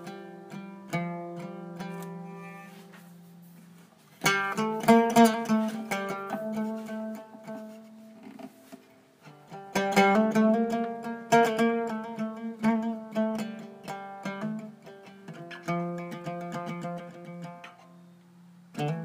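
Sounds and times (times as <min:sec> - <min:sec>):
oud plucked melody: 0:00.0 - 0:19.0.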